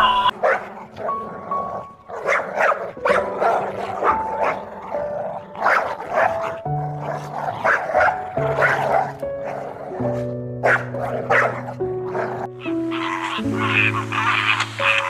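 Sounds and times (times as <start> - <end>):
background music with held notes: 0.0 - 15.0
dog barking: 0.2 - 1.2, 2.1 - 15.0.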